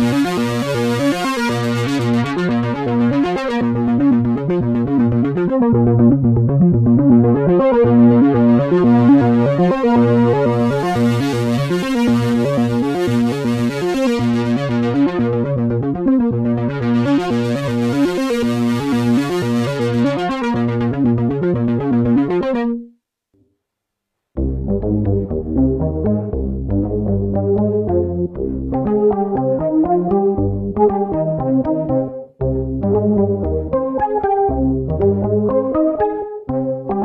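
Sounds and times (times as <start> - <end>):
synthesizer repeating note pattern: 0.0 - 22.9, 24.4 - 37.0.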